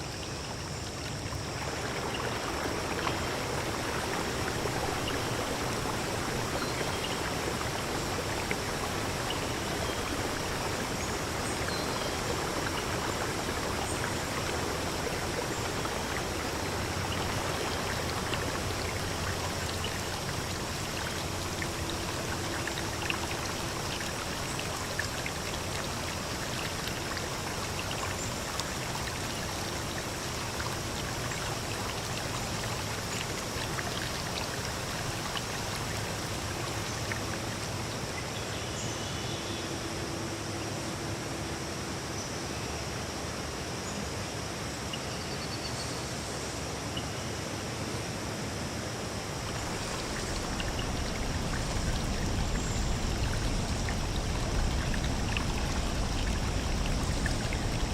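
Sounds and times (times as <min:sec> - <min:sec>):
water drips and splashes: 0:00.0 - 0:38.6, 0:49.0 - 0:57.9
stream flowing: 0:00.0 - 0:45.0, 0:46.0 - 0:57.9.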